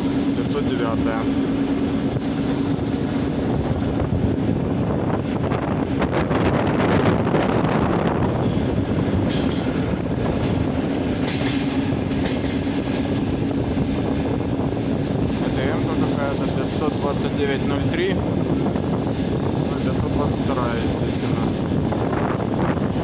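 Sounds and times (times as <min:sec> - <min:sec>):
train hum: 0:00.0 - 0:23.0
train wheels rumbling on rail: 0:00.0 - 0:23.0
wheels clacking on track: 0:00.0 - 0:23.0.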